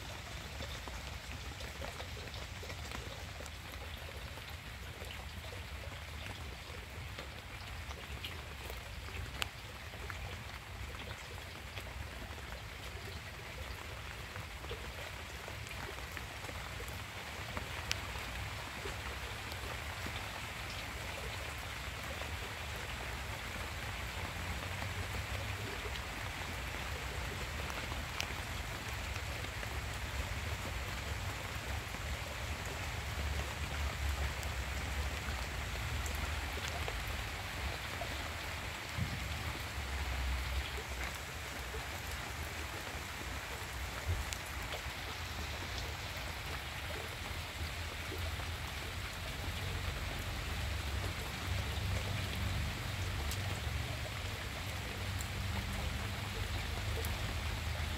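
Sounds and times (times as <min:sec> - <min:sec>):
rain on foliage: 0:00.0 - 0:57.9.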